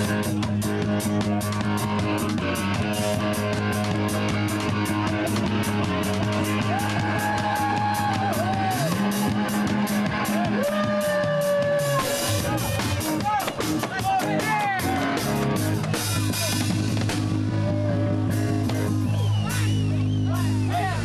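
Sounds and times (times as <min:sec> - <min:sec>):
bass notes: 0:00.0 - 0:21.0
drums and cymbals: 0:00.0 - 0:21.0
electric guitar lead notes: 0:00.0 - 0:21.0.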